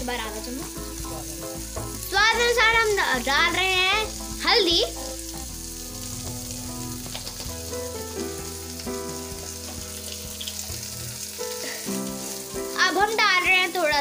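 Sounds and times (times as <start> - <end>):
background music: 0.0 - 14.0
masala sizzling in a pan: 0.0 - 14.0.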